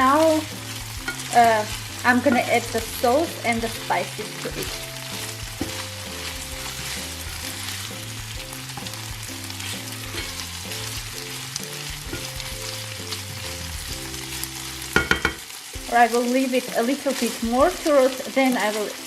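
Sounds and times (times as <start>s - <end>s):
background music low notes: 0.0s - 19.0s
food sizzling in frying pan: 0.0s - 19.0s.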